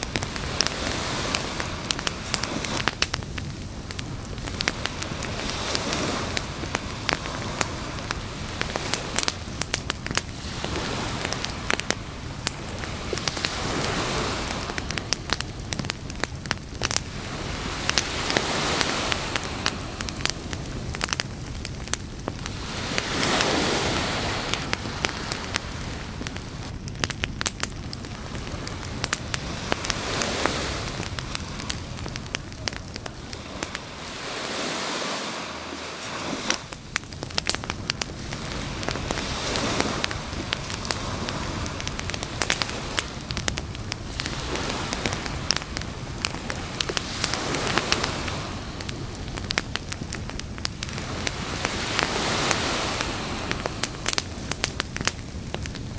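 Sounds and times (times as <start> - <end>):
campfire crackling and popping: 0.0 - 55.9
waves washing up beach: 0.0 - 55.9.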